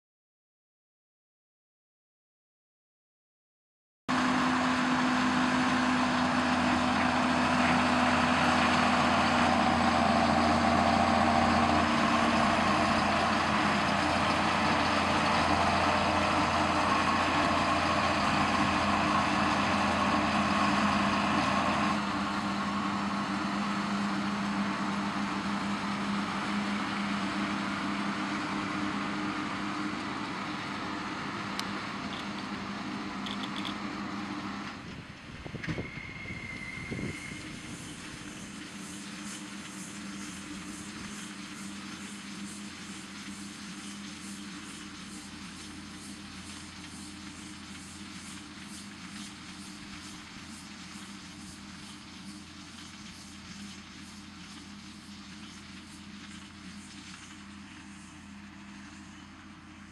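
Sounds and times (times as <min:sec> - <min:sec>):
baler mechanical noise: 0:04.1 - 0:59.9
tractor engine drone: 0:04.1 - 0:59.9.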